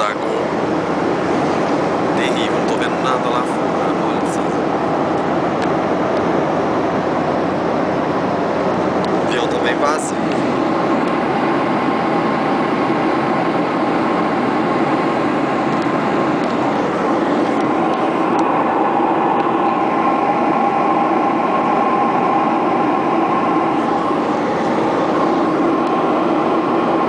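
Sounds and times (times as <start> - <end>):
airflow rushing in aircraft cabin: 0.0 - 27.0
jet engine hum: 0.0 - 27.0.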